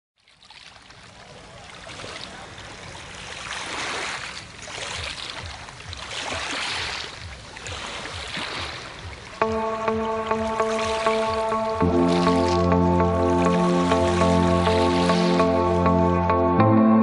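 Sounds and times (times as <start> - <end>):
sea waves washing in: 1.0 - 16.2.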